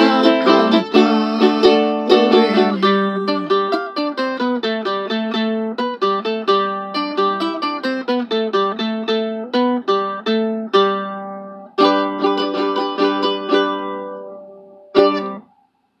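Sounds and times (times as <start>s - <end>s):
ukulele playing a melody: 0.0s - 15.4s
ukulele strum: 0.0s - 15.4s.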